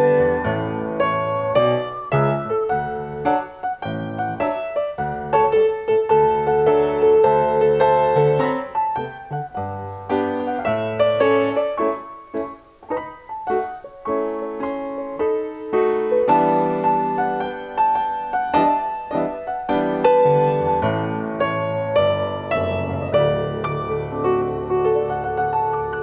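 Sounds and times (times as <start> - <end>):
piano duet: 0.0 - 26.0.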